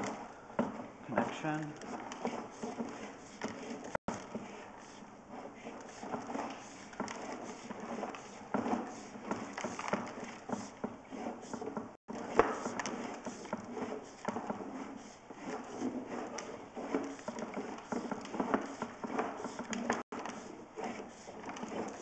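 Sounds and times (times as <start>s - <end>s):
camera head scraping along pipe: 0.0s - 22.0s.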